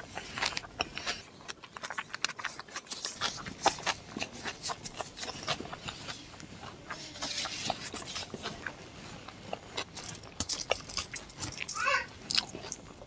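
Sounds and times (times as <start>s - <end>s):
wet chewing mouth sounds: 0.0s - 13.0s.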